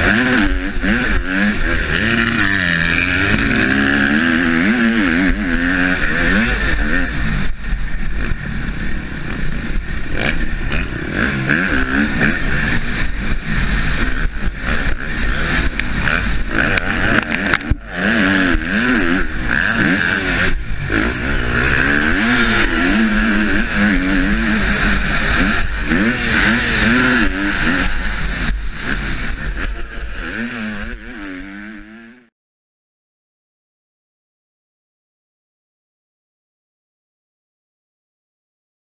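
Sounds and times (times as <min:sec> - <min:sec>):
motocross bike engine revving: 0:00.0 - 0:32.3.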